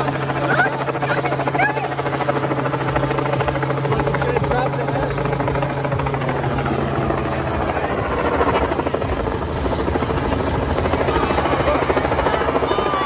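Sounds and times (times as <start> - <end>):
helicopter rotor blades chopping: 0.0 - 13.0
turbine drone: 0.0 - 13.0.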